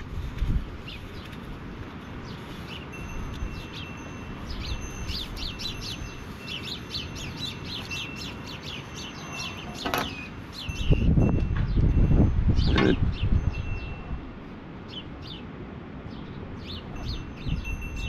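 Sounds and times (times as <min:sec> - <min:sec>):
small birds chirping: 0:00.4 - 0:14.0, 0:14.8 - 0:15.5, 0:16.1 - 0:18.0.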